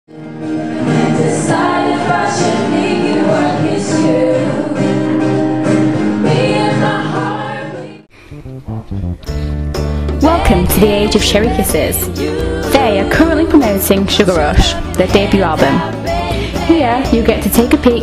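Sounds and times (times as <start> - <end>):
backing music: 0.1 - 18.0
voices singing together: 0.6 - 8.1, 10.2 - 18.0.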